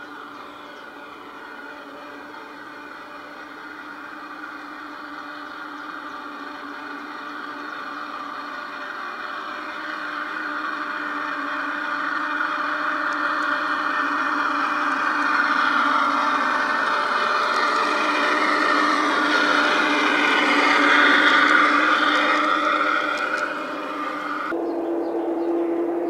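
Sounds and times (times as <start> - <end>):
model train motor whirring: 0.0 - 24.6.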